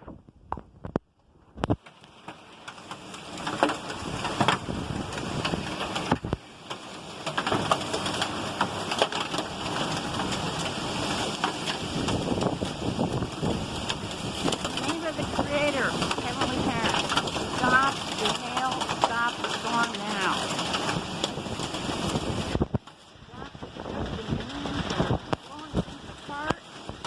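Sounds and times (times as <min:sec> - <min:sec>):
hailstones ticking: 0:01.6 - 0:27.0
heavy rain hissing: 0:02.1 - 0:27.0.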